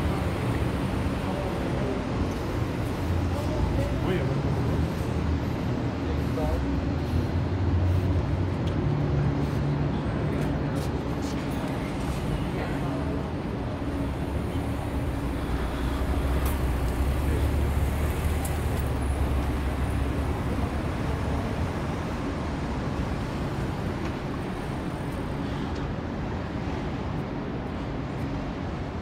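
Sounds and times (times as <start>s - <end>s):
passing vehicles hum: 0.0s - 29.0s.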